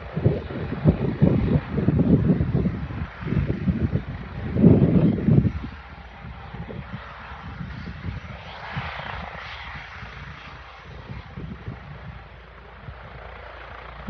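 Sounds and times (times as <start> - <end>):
helicopter rushing noise: 0.0 - 14.0.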